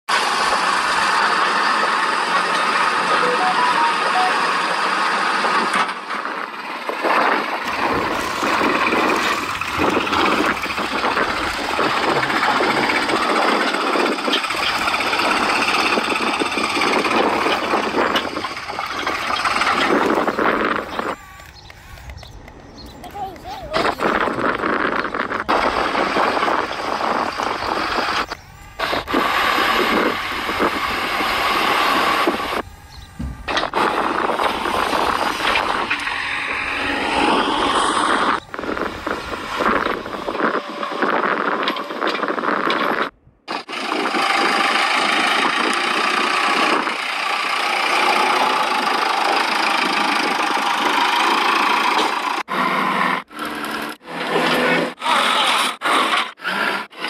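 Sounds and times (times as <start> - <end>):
model excavator mechanical running: 0.1 - 57.0
small electric motors whirring: 7.0 - 57.0.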